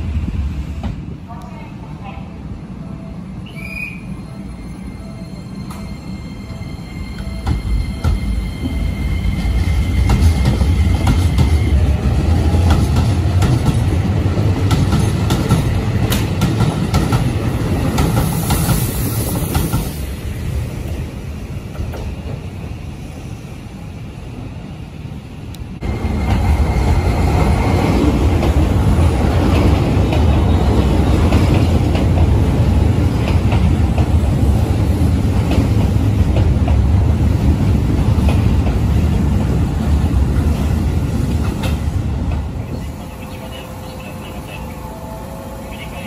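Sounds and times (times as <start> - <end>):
station background: 0.0 - 18.8, 20.1 - 46.0
train rumbling past: 0.0 - 46.0.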